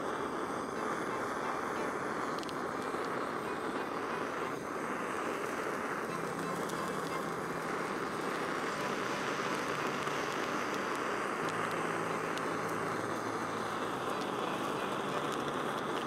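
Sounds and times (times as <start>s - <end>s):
gas torch flame hissing: 0.0s - 16.0s.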